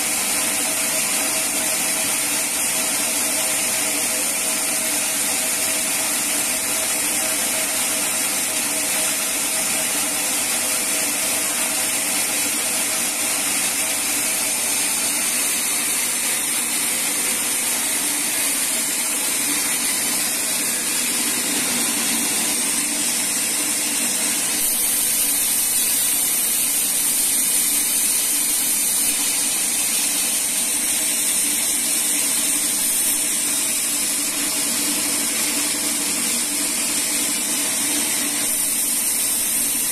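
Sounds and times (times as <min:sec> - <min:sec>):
band sawmill hissing: 0:01.3 - 0:39.9.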